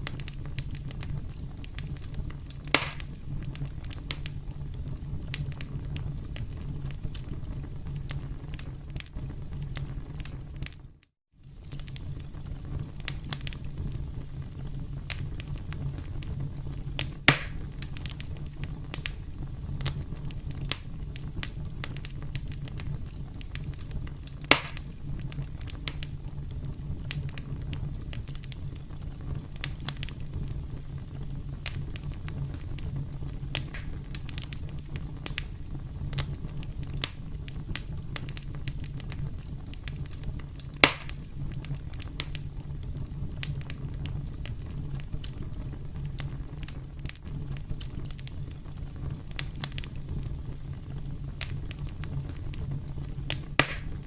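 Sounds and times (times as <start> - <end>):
campfire crackling: 0.0 - 54.0
loud pops from fire: 0.0 - 54.0
low rumble of fire: 0.0 - 54.0.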